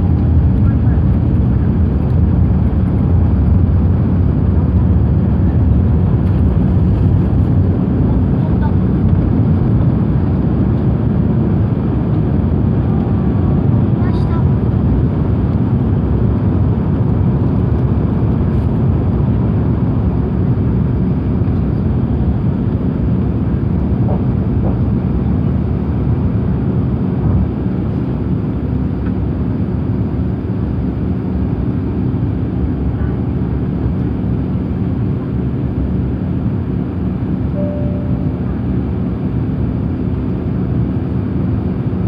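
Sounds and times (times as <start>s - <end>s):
airplane cabin engine rumble: 0.0s - 42.0s.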